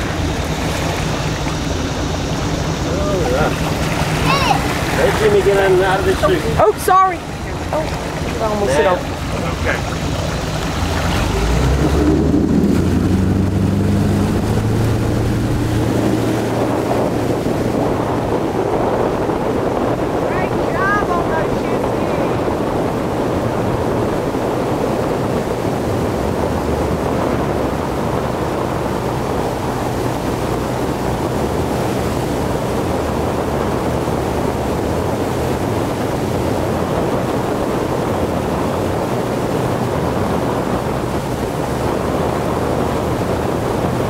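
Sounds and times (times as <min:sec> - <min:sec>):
boat engine humming: 0:00.0 - 0:44.0
water spray rushing: 0:00.0 - 0:44.0
wind: 0:00.0 - 0:44.0.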